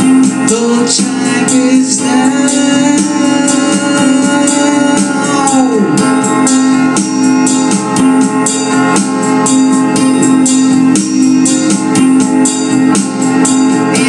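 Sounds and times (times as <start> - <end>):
guitar strummed: 0.0 - 14.0
held organ-like keyboard note: 0.0 - 14.0.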